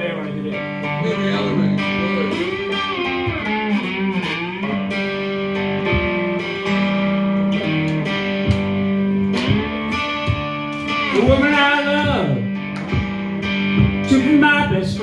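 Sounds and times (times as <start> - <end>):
slide guitar playing slow blues: 0.0 - 15.0
low thumps: 1.8 - 14.2.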